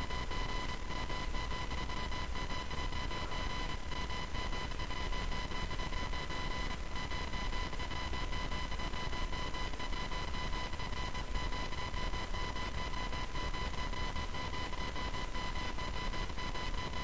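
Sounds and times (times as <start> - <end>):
high electrical whine: 0.0 - 17.0.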